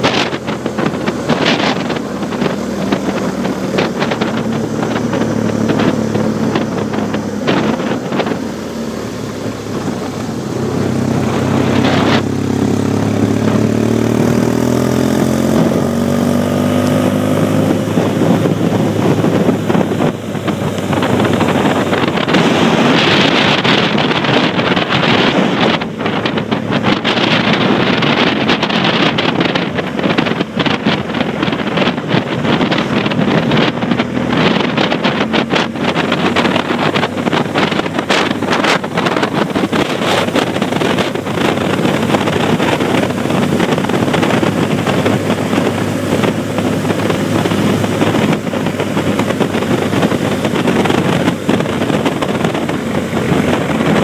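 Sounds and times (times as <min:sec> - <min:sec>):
motorcycle engine accelerating: 0:00.0 - 0:54.0
wind buffeting microphone: 0:00.0 - 0:54.0.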